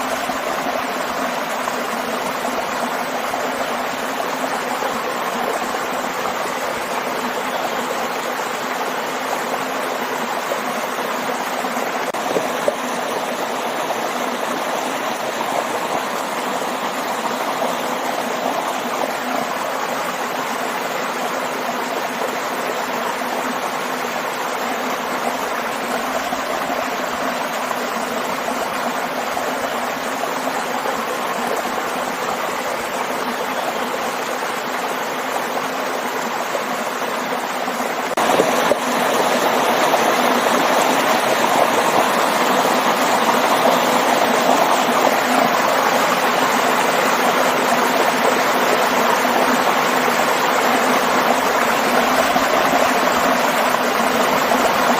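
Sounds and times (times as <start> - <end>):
waterfall and stream rushing: 0.0 - 54.9.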